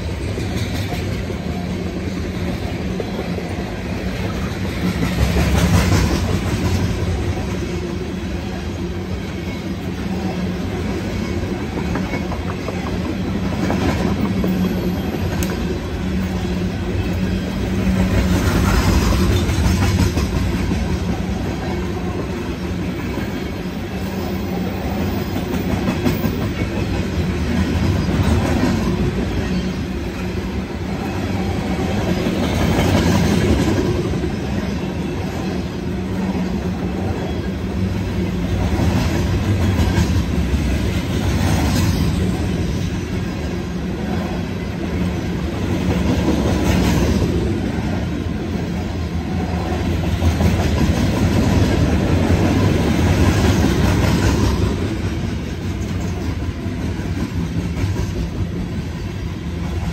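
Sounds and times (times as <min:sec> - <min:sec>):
freight train rolling past: 0:00.0 - 0:59.9
steel wheels clattering on rails: 0:00.0 - 0:59.9.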